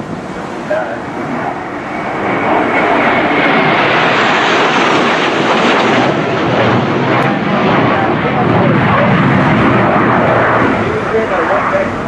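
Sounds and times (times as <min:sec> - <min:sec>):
jet aircraft roaring past: 0:00.0 - 0:12.0.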